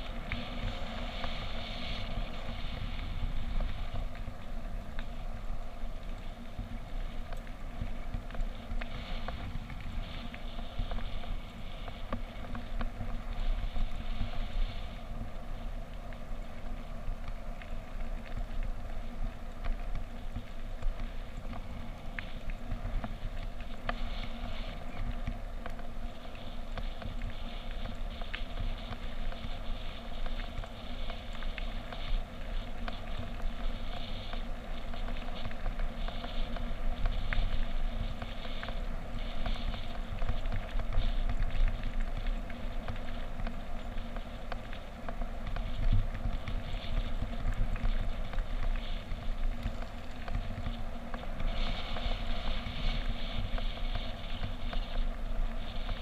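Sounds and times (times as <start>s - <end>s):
faint clicks: 0.0s - 56.0s.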